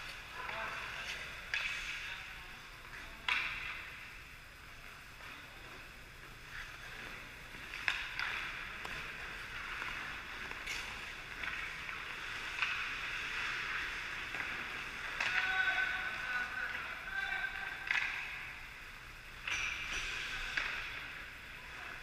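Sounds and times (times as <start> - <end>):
hockey sticks and puck clacking: 0.0 - 2.2, 2.9 - 4.1, 6.5 - 18.7, 19.3 - 21.3.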